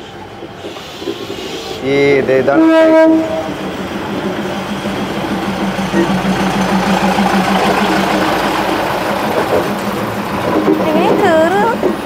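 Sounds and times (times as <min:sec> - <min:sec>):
diesel railcar passing: 0:00.0 - 0:12.0.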